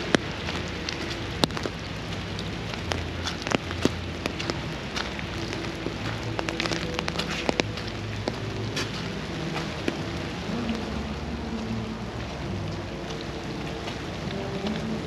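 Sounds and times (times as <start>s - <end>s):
rain hiss: 0.0s - 15.0s
raindrops tapping close by: 0.0s - 15.0s.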